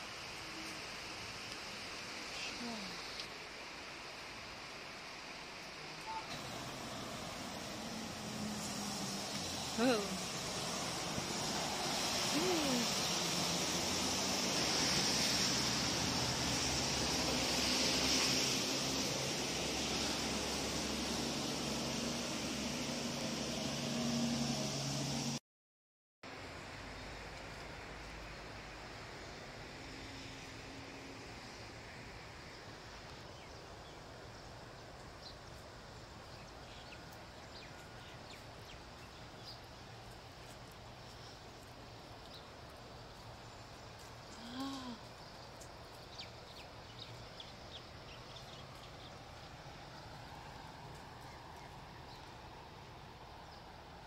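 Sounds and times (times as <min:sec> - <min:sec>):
outdoor background hiss and rumble: 0:00.0 - 0:25.4, 0:26.2 - 0:54.0.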